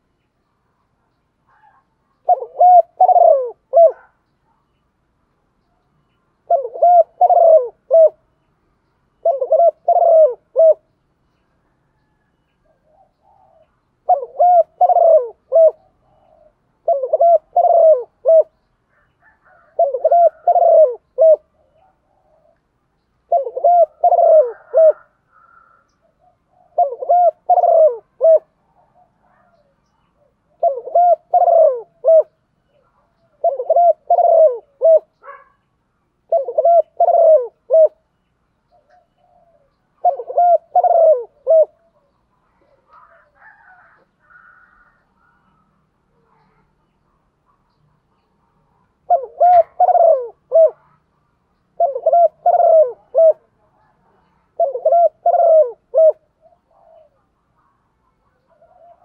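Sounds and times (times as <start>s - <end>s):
dove cooing: 1.0s - 4.6s, 6.4s - 8.3s, 9.1s - 10.9s, 11.6s - 35.6s, 36.2s - 38.1s, 38.7s - 51.1s, 51.7s - 59.0s.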